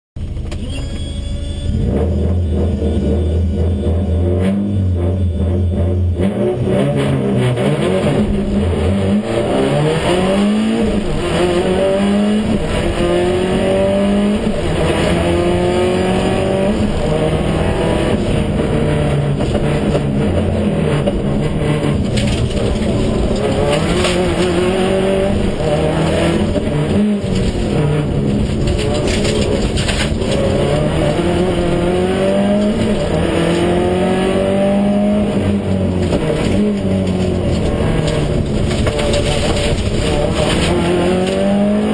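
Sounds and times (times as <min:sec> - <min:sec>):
car engine accelerating hard: 0:00.2 - 0:41.9.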